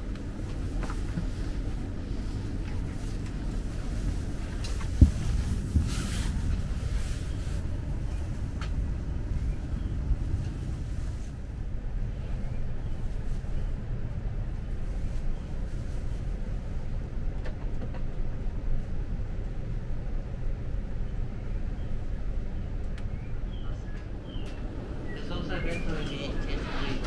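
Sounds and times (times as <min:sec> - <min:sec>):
train interior rumble: 0:00.0 - 0:27.0.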